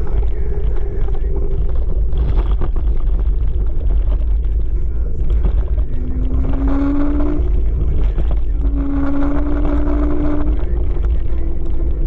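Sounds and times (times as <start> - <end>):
pitched hum: 0.0 - 12.0
wind buffeting microphone: 0.0 - 12.0.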